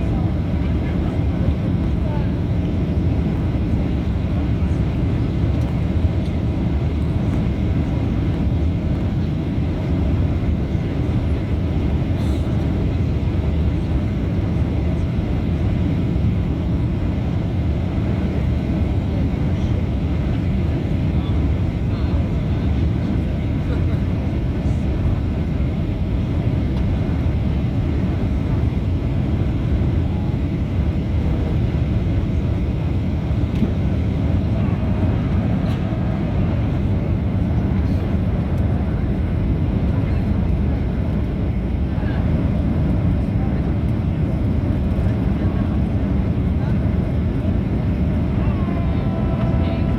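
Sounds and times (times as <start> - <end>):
jet airliner rumble: 0.0 - 49.9.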